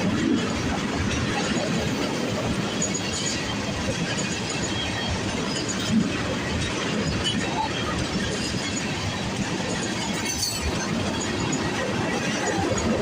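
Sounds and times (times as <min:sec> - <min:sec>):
steel wheels on track: 0:00.0 - 0:13.0.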